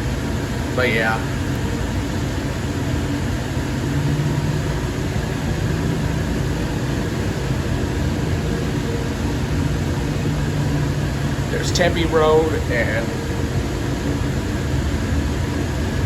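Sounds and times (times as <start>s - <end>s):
constant low hum: 0.0s - 16.0s
train ride rumble: 0.0s - 16.0s.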